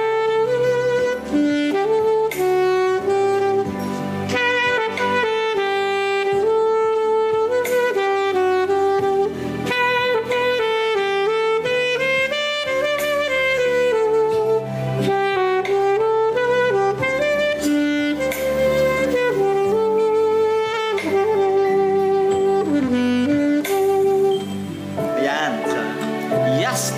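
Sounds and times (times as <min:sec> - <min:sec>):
alto saxophone melody: 0:00.0 - 0:26.9.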